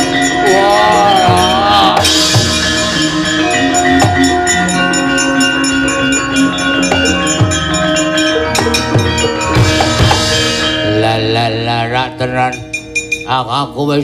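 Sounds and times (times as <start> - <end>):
ringing metallophone tones: 0.0 - 14.0.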